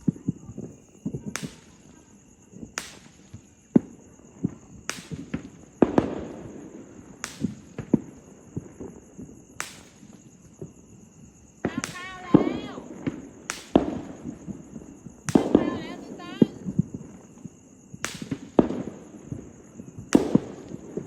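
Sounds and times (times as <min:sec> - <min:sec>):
fireworks bangs: 0:00.0 - 0:10.8, 0:11.6 - 0:21.0.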